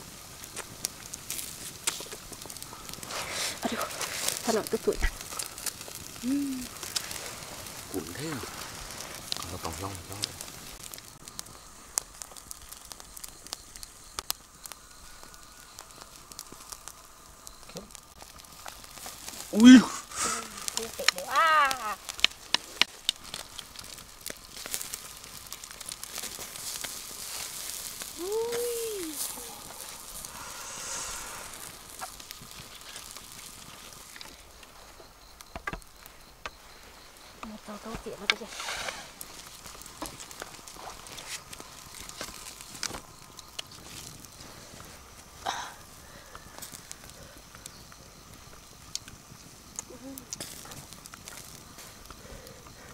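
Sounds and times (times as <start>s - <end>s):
leaves rustling: 0.0s - 52.9s
wood fire crackling and popping: 0.0s - 52.9s.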